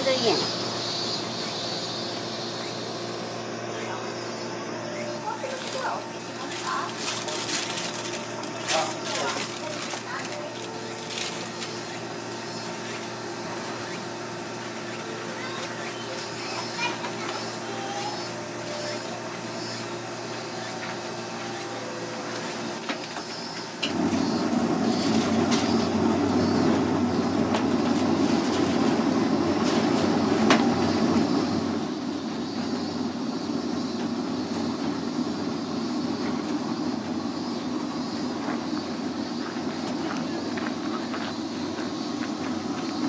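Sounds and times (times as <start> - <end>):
ice cream machine drone: 0.0 - 43.0.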